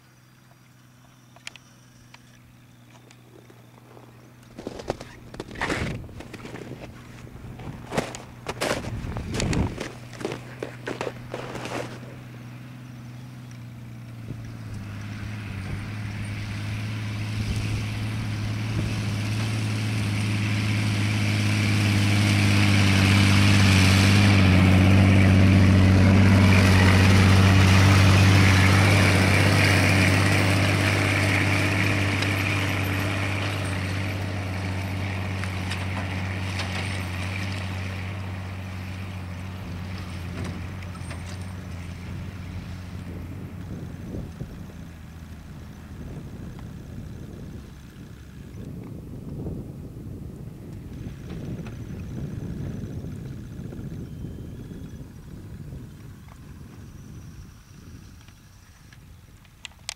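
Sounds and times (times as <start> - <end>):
snowmobile engine running: 2.4 - 58.8.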